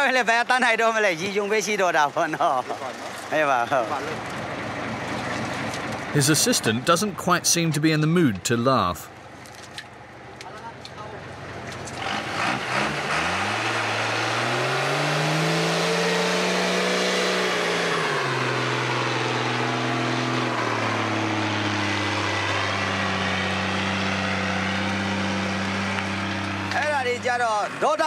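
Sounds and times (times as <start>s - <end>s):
truck engine revving: 2.5s - 9.1s, 11.3s - 28.0s.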